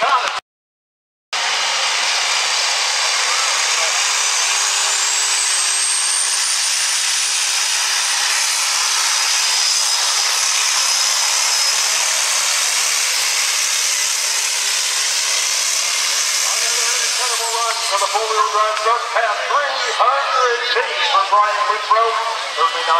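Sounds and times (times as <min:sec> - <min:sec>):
diesel truck engine screaming: 0:01.4 - 0:22.9.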